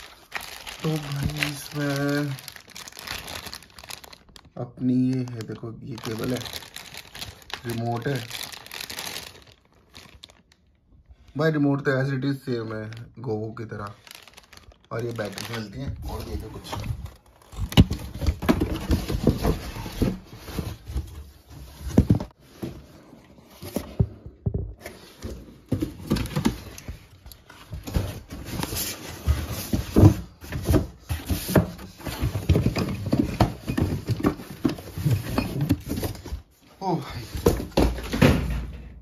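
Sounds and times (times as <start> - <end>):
cardboard and foam rustling: 0.0 - 10.5, 11.1 - 38.8.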